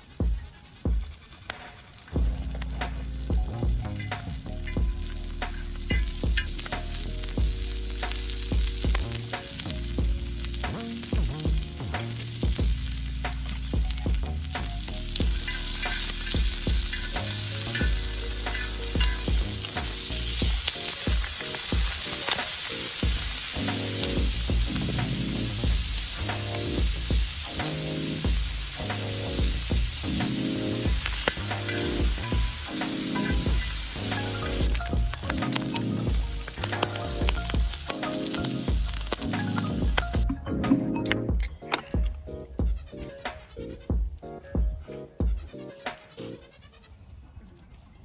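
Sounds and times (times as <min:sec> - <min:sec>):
background music: 0:00.0 - 0:46.6
sizzling hiss with crackles: 0:00.0 - 0:47.1.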